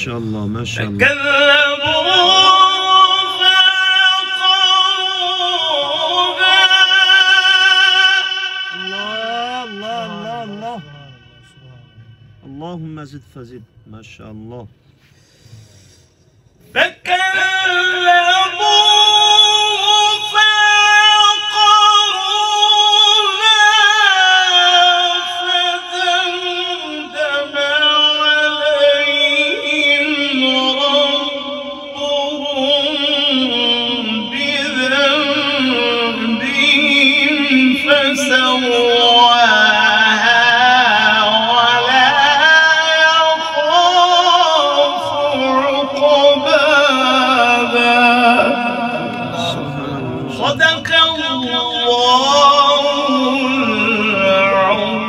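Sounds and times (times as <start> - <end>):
man chanting melodically: 0.0 - 14.8, 16.7 - 55.0.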